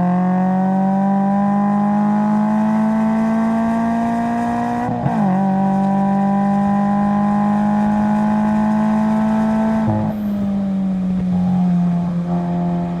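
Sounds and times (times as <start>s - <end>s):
car engine under load: 0.1s - 13.0s.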